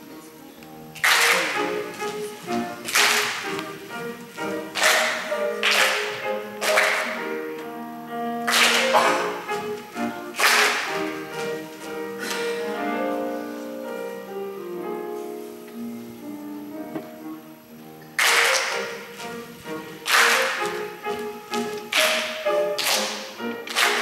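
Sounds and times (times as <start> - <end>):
slow instrumental music: 0.0 - 24.0.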